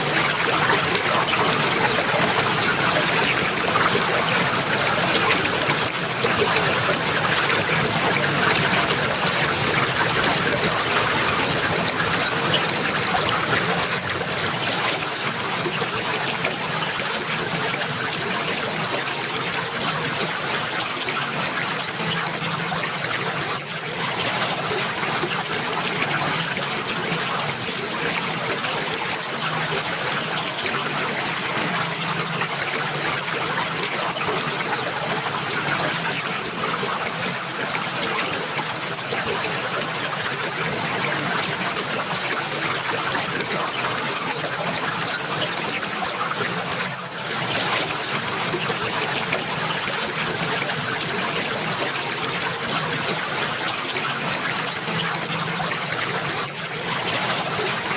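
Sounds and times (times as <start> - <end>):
running water trickling: 0.0 - 57.9.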